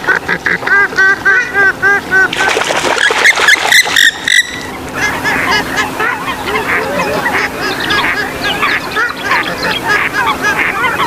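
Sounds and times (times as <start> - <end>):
chorus of waterbird calls: 0.0 - 11.0
faint steady hum: 0.0 - 11.0.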